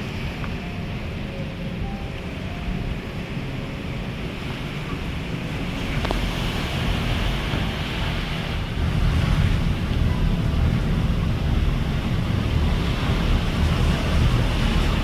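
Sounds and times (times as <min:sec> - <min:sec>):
waves washing: 0:00.0 - 0:15.0
wind buffeting microphone: 0:00.0 - 0:15.0.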